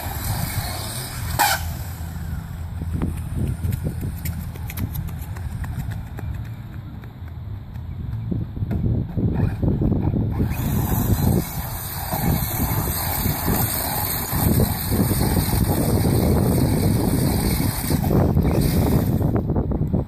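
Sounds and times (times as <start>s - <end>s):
remote-control car running: 0.0s - 6.5s, 9.1s - 19.5s
wheels spinning in loose dirt: 0.0s - 20.0s
wind buffeting microphone: 0.0s - 20.0s.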